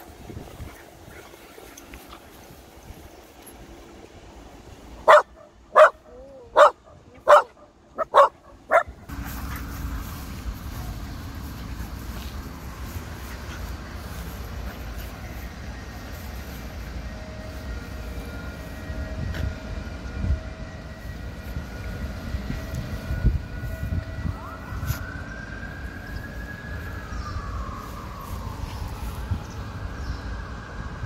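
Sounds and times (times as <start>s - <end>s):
distant traffic rumble: 0.0s - 31.0s.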